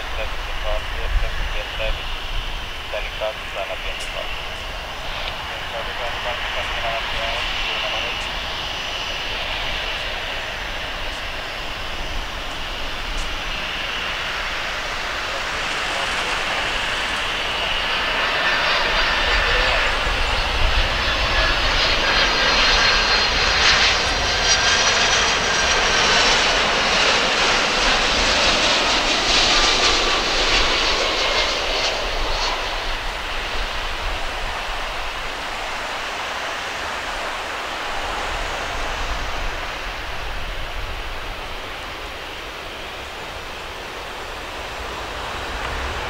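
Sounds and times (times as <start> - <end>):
jet engines whining: 0.0 - 46.0
jet rolling rush of noise: 0.0 - 46.0.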